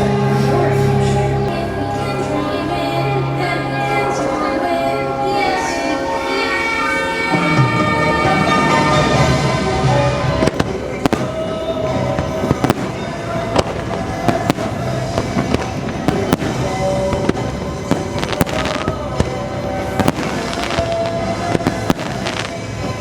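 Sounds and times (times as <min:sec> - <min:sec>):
fireworks banging: 0:00.0 - 0:23.0
orchestral music: 0:00.0 - 0:23.0.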